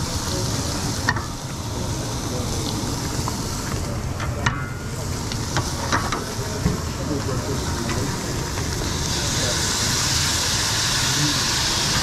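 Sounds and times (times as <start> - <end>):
chicken sizzling in pans: 0.0 - 12.0.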